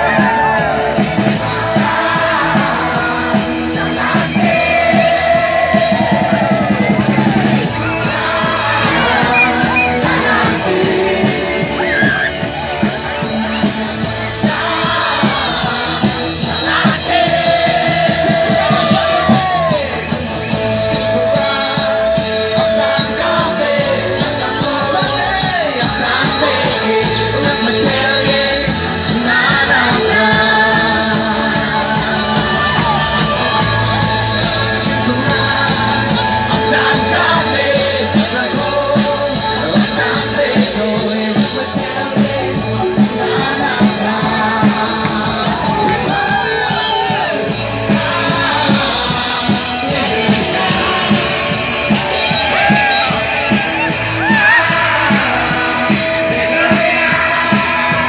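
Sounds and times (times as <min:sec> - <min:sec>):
crowd singing and shouting: 0:00.0 - 0:58.0
live band with singing: 0:00.0 - 0:58.0.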